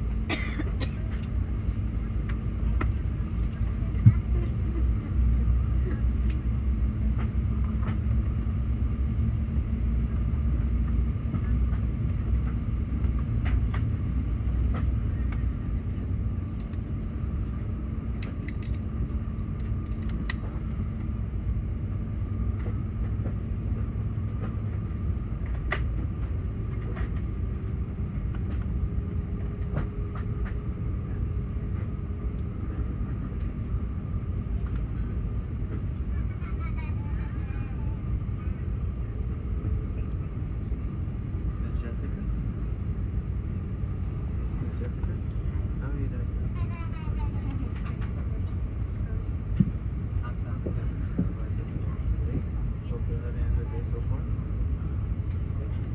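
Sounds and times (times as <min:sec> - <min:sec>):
low airplane cabin rumble: 0:00.0 - 0:55.9.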